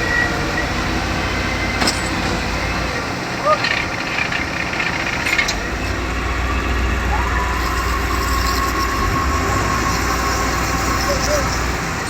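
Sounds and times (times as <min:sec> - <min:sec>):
concrete pump engine hum: 0:00.0 - 0:12.0
steady whine: 0:00.0 - 0:12.0.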